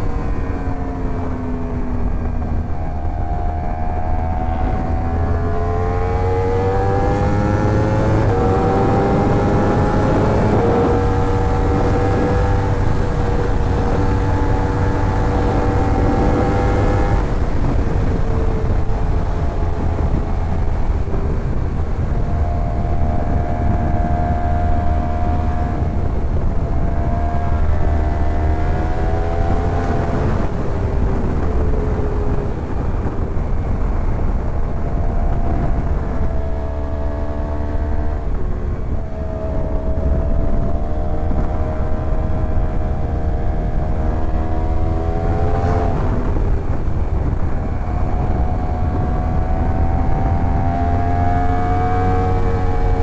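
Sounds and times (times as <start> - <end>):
motorcycle engine revving: 0.0 - 53.0
wind rumble on microphone: 0.0 - 53.0.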